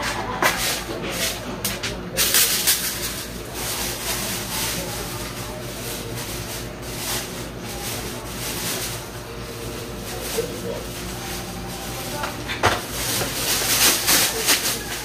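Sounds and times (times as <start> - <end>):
broom sweeping wet concrete: 0.0 - 15.0
debris rustling into plastic bag: 2.2 - 15.0.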